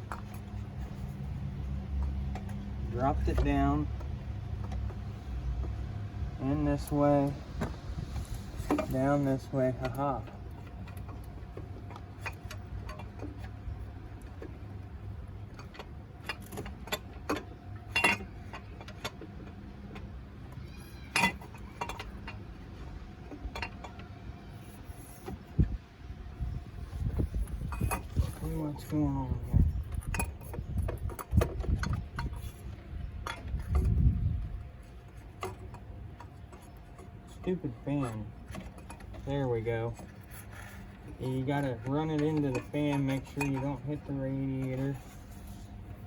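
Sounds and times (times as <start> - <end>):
parts and tools clinking: 0.0 - 46.0
steady low hum: 0.0 - 46.0.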